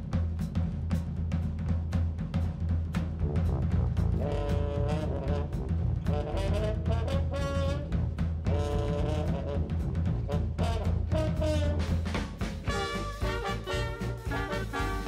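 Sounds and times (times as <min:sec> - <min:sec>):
brass and drums music: 0:00.0 - 0:15.0.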